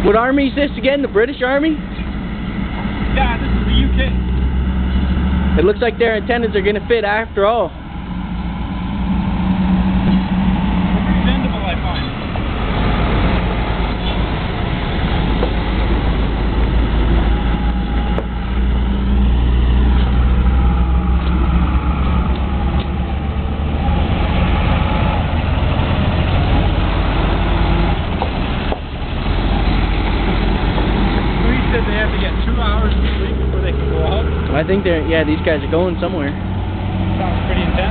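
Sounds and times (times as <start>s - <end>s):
military trucks driving past: 0.0s - 37.9s.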